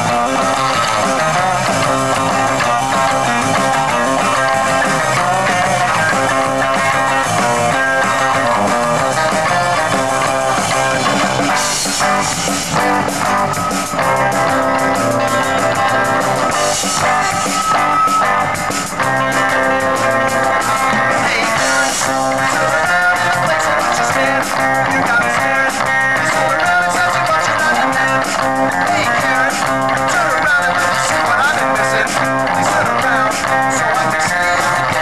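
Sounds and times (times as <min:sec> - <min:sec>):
drum kit: 0:00.0 - 0:35.0
electric guitars: 0:00.0 - 0:35.0.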